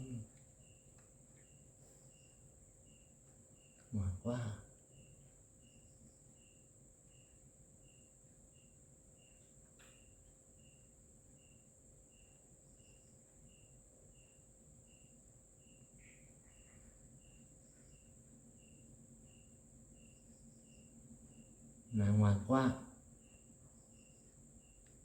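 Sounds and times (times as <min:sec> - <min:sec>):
cricket chirping: 0:00.0 - 0:25.0
steady high insect buzz: 0:00.0 - 0:25.0.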